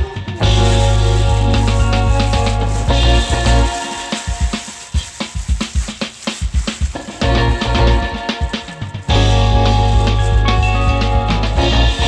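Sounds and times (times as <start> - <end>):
instrumental music with drums: 0.0 - 12.0.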